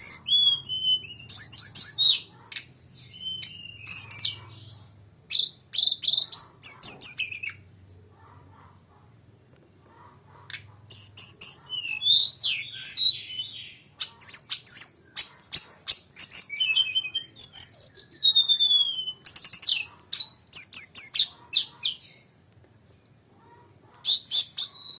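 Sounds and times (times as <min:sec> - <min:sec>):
songbird singing: 0:00.0 - 0:08.6, 0:09.9 - 0:25.0.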